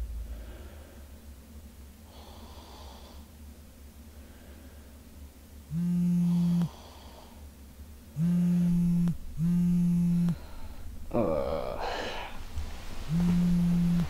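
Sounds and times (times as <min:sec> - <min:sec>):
low buzz: 0:00.0 - 0:02.7, 0:03.4 - 0:07.2, 0:07.9 - 0:14.0.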